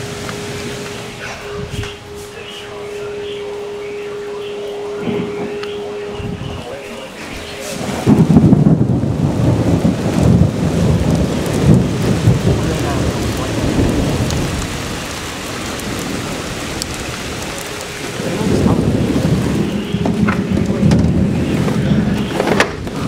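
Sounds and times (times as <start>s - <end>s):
heavy rain: 0.0s - 23.0s
thunder rolling: 0.0s - 23.0s.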